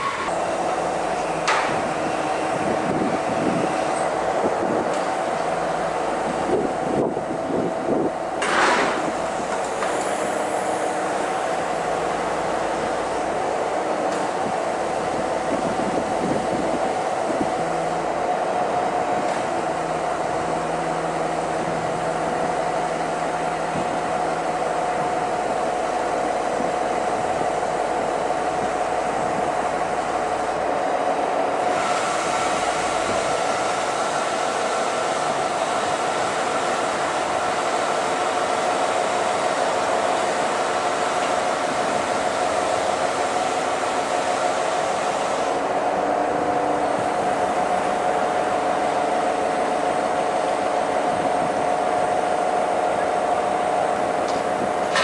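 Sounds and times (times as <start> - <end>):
crane engine running: 0.0 - 55.0
hydraulic whine: 0.0 - 55.0.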